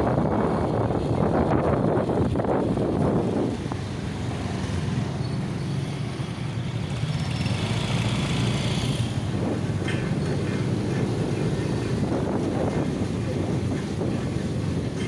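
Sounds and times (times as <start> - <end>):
wind on microphone: 0.0 - 5.1, 8.0 - 15.0.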